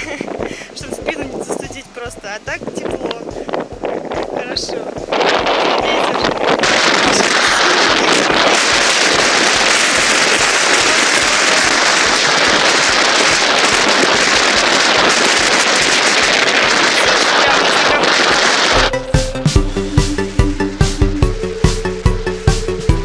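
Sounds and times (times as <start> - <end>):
strong wind rushing: 2.4 - 23.0.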